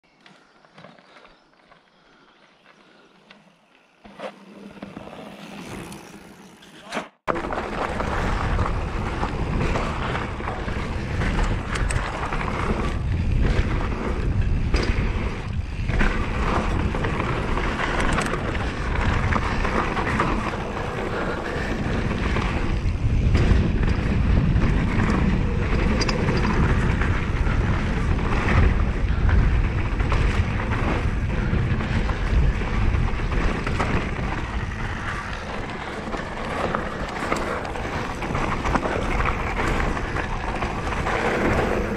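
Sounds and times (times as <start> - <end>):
bike tyres rolling on dirt: 0.1 - 41.9
bike rattling over bumps: 0.4 - 41.9
wind buffeting microphone: 7.6 - 41.9.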